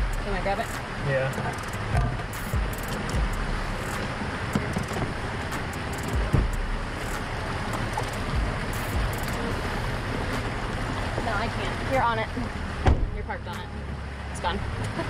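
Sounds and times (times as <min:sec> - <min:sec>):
dull low thumps: 0:00.0 - 0:14.6
vehicle engine rumble from inside: 0:00.0 - 0:15.0.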